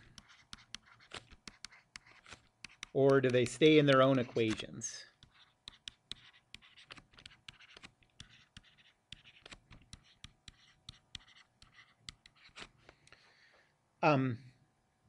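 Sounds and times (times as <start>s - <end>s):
stylus tapping and scratching: 0.0s - 13.2s.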